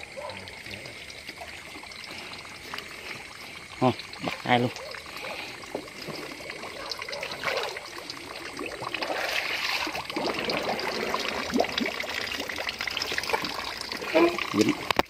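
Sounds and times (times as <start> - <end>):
stream water trickling and sloshing: 0.0 - 15.0.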